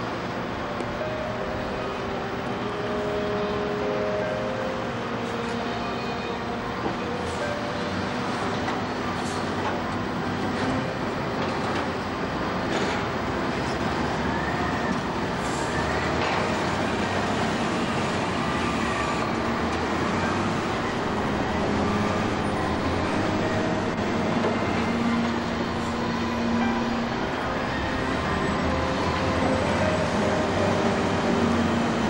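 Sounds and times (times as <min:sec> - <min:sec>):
diesel engine running under load: 0:00.0 - 0:32.0.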